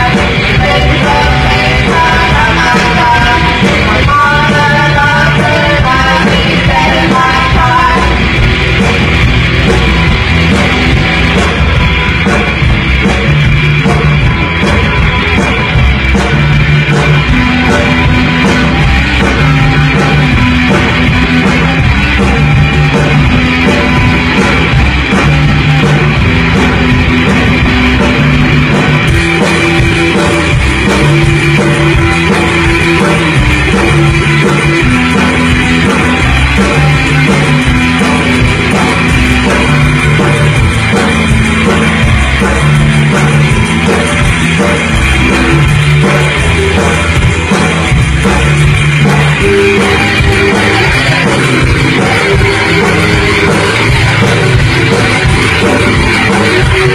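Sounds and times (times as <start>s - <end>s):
live rock band playing: 0.0s - 56.9s.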